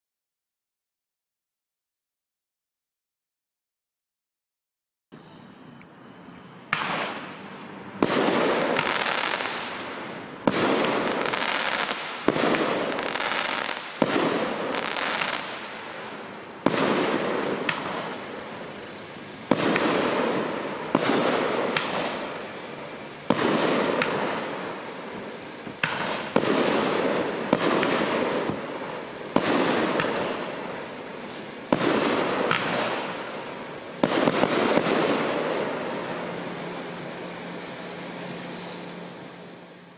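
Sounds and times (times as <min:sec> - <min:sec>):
firework hissing tails: 0:05.2 - 0:39.9
firework bangs: 0:06.7 - 0:39.5.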